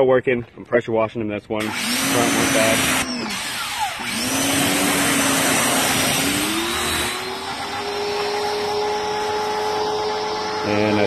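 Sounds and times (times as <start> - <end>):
pressure washer motor whine: 1.6 - 11.0.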